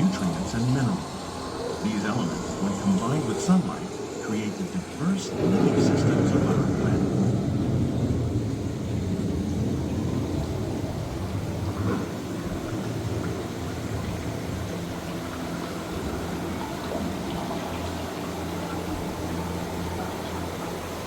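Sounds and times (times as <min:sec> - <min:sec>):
steady low hum: 0:00.0 - 0:21.0
water bubbling and sloshing: 0:00.0 - 0:21.0.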